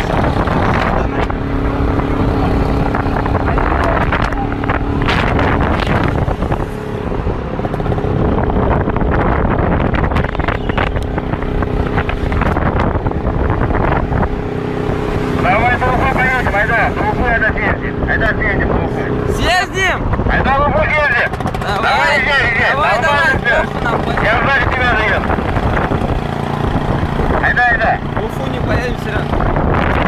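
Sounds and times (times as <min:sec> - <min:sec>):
car engine and road noise: 0:00.0 - 0:30.0
wind buffeting microphone: 0:00.0 - 0:30.0.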